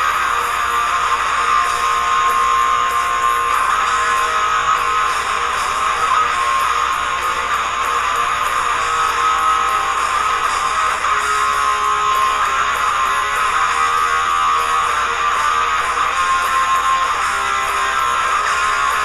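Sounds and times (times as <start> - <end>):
electric guitars strumming: 0.0 - 19.0.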